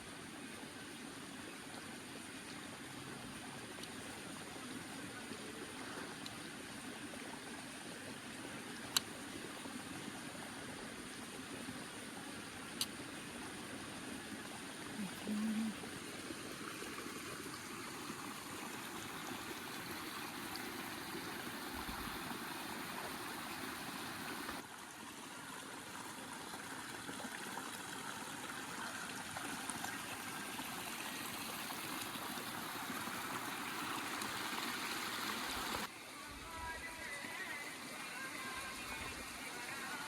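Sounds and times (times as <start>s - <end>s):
flowing water: 0.0s - 40.0s.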